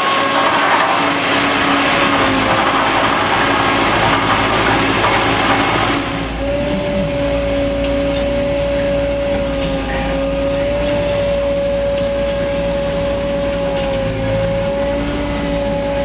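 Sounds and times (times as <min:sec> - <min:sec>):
machine engine running: 0:00.0 - 0:16.0
machine whine: 0:00.0 - 0:16.0.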